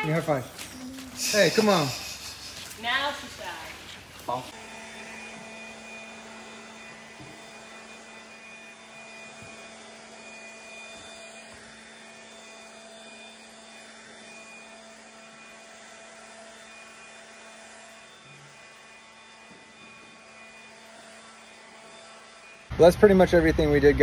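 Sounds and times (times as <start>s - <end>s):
leaf blower running: 0.0s - 24.0s.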